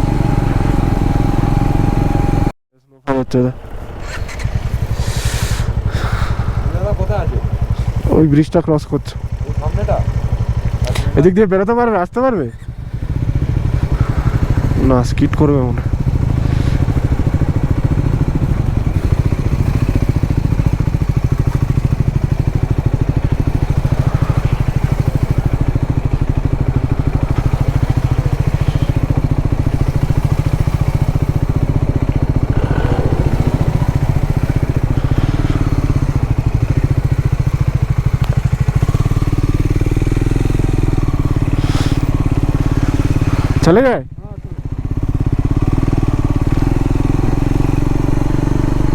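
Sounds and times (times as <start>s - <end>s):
motorcycle engine running steadily: 0.0s - 2.5s, 3.5s - 48.9s.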